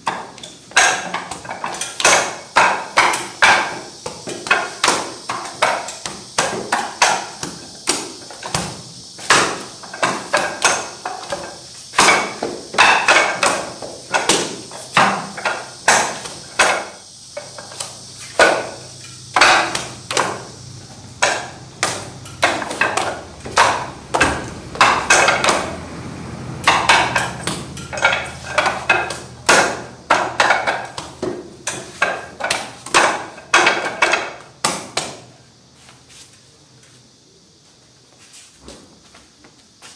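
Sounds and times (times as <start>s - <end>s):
wooden knocks and slaps: 0.0s - 20.5s, 21.1s - 25.8s, 26.6s - 35.3s.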